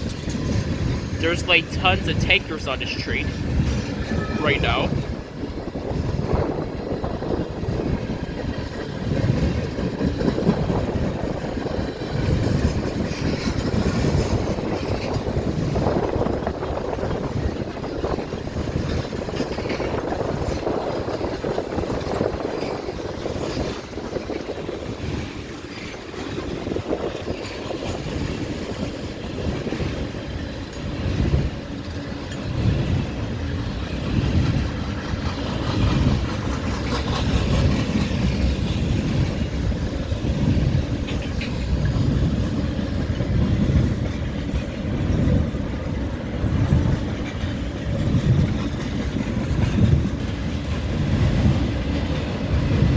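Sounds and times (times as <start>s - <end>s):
freight train wheels clattering: 0.0s - 1.2s, 3.4s - 52.9s.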